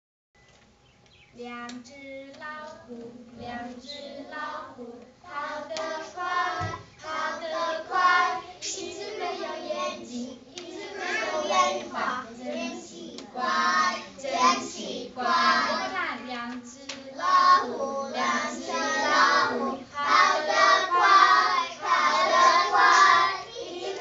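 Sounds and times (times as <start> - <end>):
children singing: 3.0 - 24.0.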